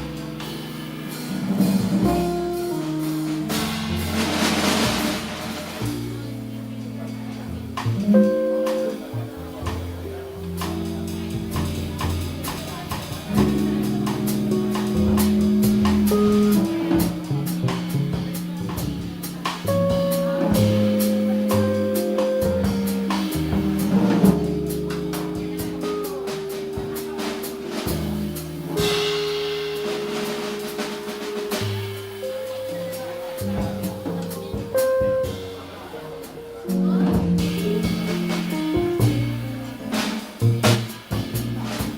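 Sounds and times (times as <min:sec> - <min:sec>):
drum kit playing: 0:00.0 - 0:41.9
piano notes and chords: 0:00.0 - 0:41.9.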